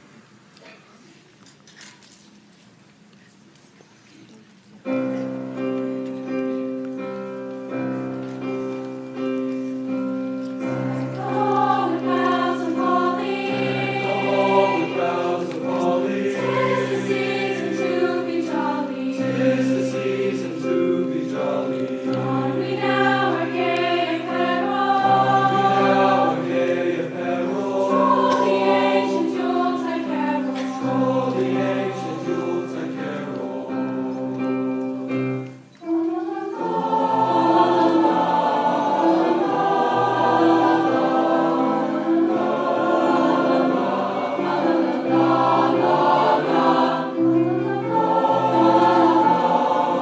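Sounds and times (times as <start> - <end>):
choir singing in parts: 4.9 - 50.0.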